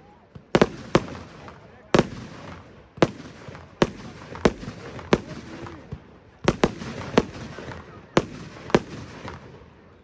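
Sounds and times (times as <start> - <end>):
crackling firework stars: 0.0 - 10.0
firework bangs: 0.4 - 9.6.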